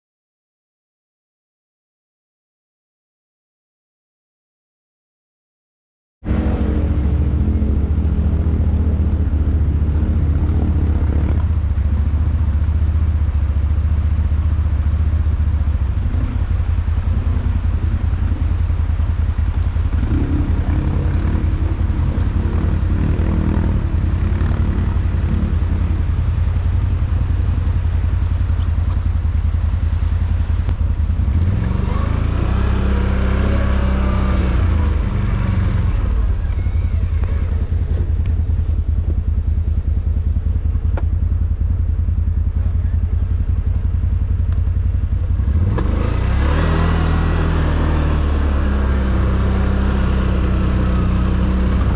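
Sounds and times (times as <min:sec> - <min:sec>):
atv engine running: 0:06.3 - 0:51.9.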